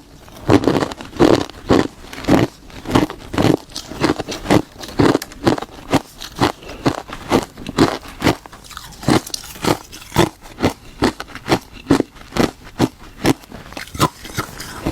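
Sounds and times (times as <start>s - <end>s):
ice being chewed: 0.1s - 14.9s.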